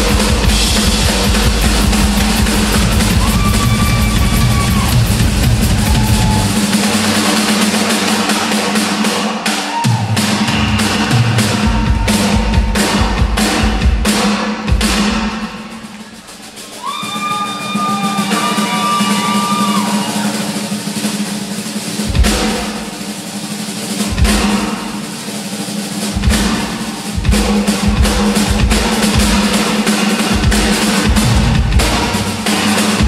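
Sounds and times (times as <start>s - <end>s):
cymbal and snare rolls: 0.0s - 33.0s.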